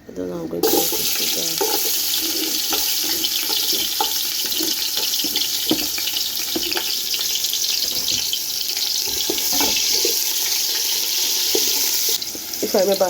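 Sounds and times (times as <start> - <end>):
onions sizzling in oil: 0.6 - 13.0.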